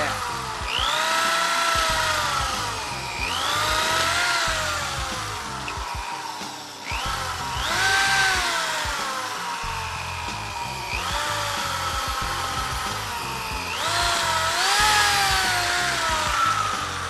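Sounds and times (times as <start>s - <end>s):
power buffer motor whining: 0.0s - 17.0s.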